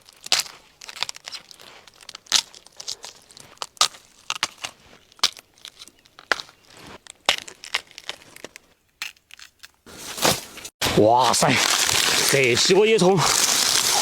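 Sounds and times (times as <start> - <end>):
dry plant stalks snapping: 0.0 - 10.4, 11.1 - 14.0.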